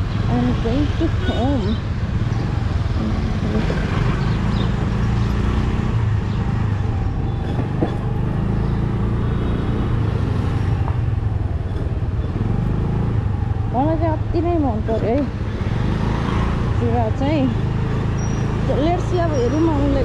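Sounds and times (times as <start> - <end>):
tyres on road: 0.0 - 20.0
vehicle engine rumble: 0.0 - 20.0.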